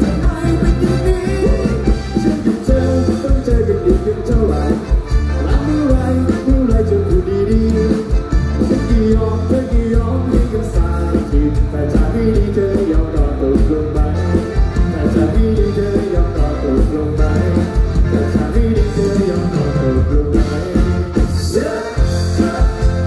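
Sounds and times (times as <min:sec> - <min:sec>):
bass: 0:00.0 - 0:23.0
man singing: 0:00.0 - 0:23.0.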